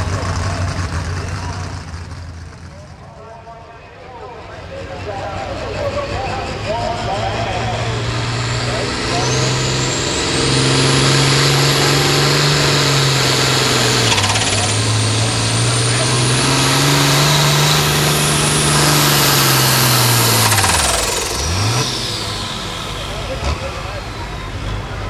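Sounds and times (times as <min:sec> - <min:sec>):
tractor engine running under load: 0:00.0 - 0:25.0
high whine: 0:03.2 - 0:25.0.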